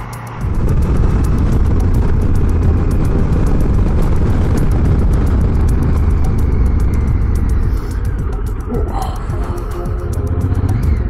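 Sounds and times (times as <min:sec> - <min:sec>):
gravel clicking under tyres: 0:00.0 - 0:11.0
motorcycle engine and wind rumble: 0:00.0 - 0:11.0.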